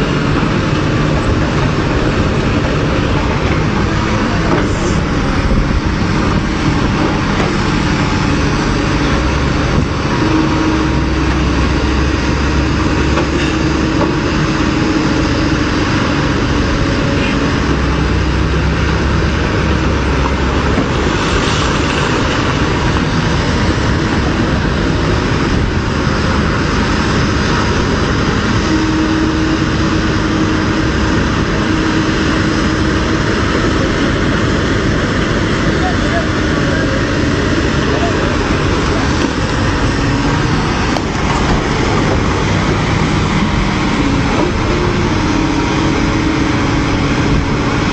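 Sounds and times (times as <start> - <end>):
heavy machinery engine running: 0.0 - 47.9
humming drone: 0.0 - 47.9.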